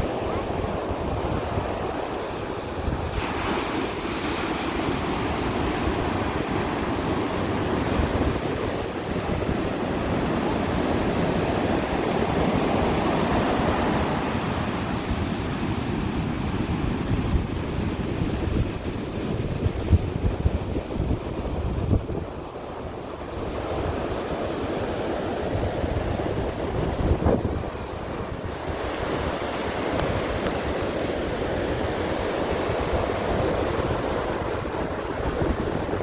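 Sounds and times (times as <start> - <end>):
ocean waves breaking: 0.0 - 36.0
wind on microphone: 0.0 - 36.0.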